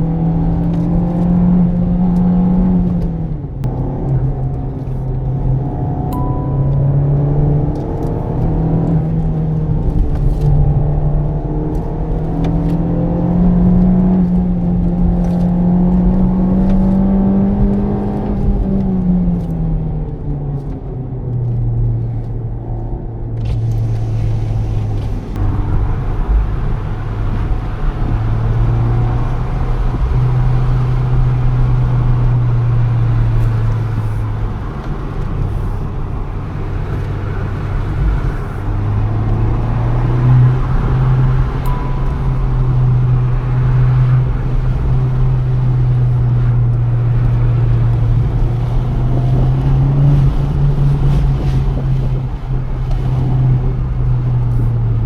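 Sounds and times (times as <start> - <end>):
car engine from inside cabin: 0.0 - 55.0
tyre and road noise: 0.0 - 55.0.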